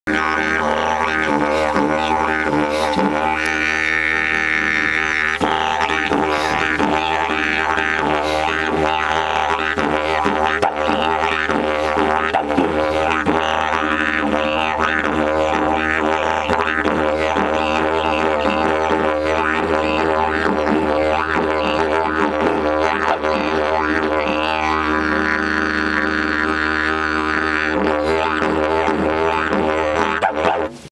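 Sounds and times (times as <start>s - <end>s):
didgeridoo drone: 0.0s - 30.9s.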